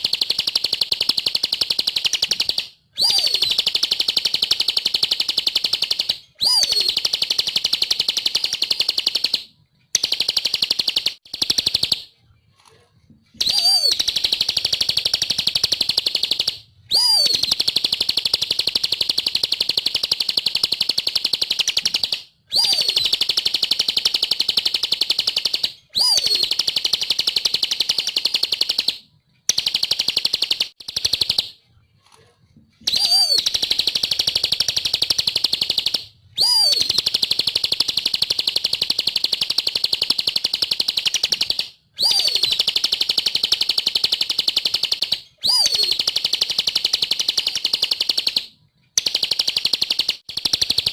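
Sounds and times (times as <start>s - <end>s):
bird trilling song: 0.0s - 12.0s, 13.4s - 28.9s, 32.8s - 48.4s.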